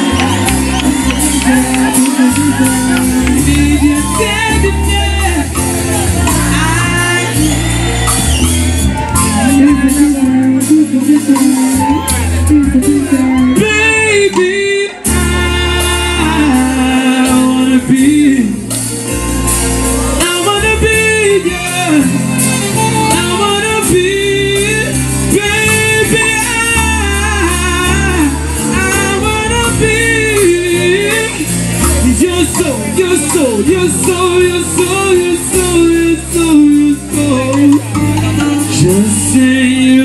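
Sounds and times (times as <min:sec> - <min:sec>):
man singing into microphone: 0:00.0 - 0:18.9, 0:20.0 - 0:40.0
acoustic guitar: 0:00.0 - 0:40.0
low bass notes: 0:00.0 - 0:40.0.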